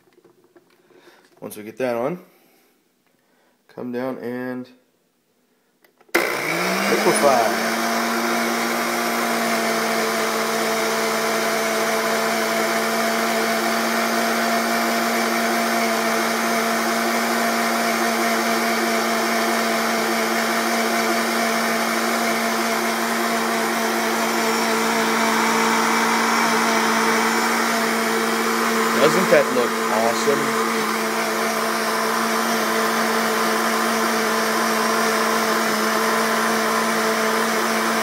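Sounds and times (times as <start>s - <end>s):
blender motor whine: 6.1s - 38.0s.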